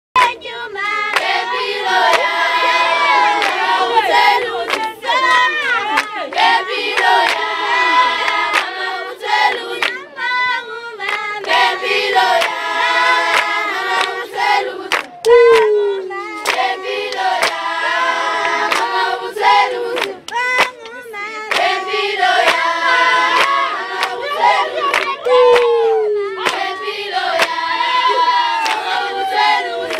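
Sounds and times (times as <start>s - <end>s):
sharp rhythmic clapping: 0.2s - 29.9s
women singing in unison: 0.2s - 29.9s.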